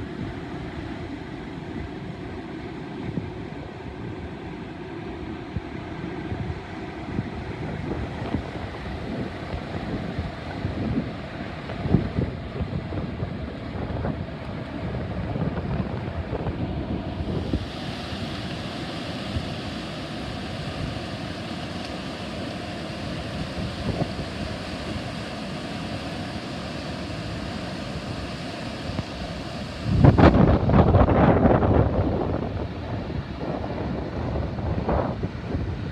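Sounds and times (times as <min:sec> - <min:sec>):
wind buffeting microphone: 0:05.5 - 0:21.4, 0:22.8 - 0:35.9.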